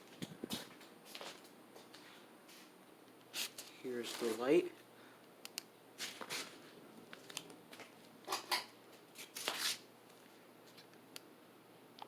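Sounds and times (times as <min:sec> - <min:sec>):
ceiling fan hum: 0:00.0 - 0:12.0
rustling handling noises: 0:00.1 - 0:04.9, 0:06.0 - 0:10.9.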